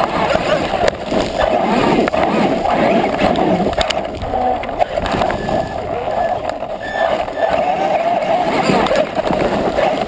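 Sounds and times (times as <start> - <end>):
muffled rc truck running: 0.0 - 10.0.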